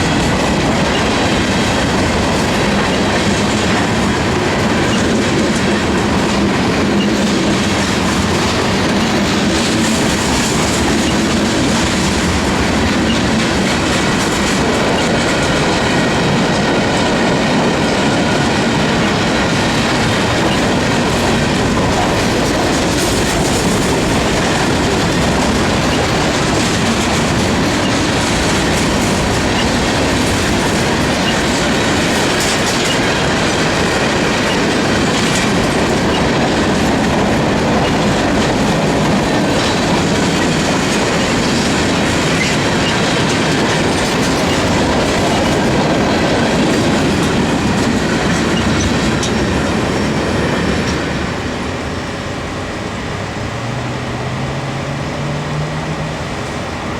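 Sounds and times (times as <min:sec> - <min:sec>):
train wheels clattering over joints: 0:00.0 - 0:52.1.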